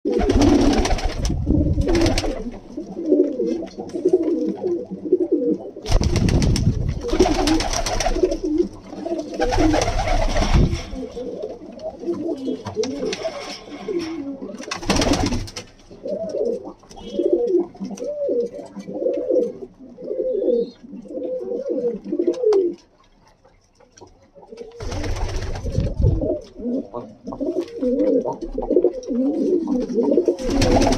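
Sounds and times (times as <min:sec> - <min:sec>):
pigeons cooing: 0:00.1 - 0:22.9, 0:24.4 - 0:30.9.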